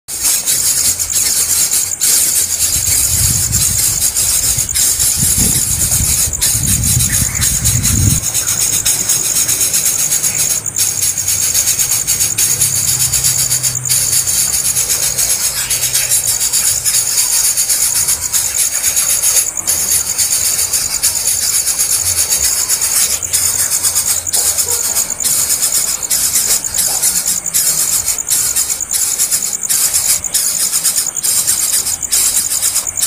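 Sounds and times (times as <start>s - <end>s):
nestlings begging buzz: 0.1s - 33.0s.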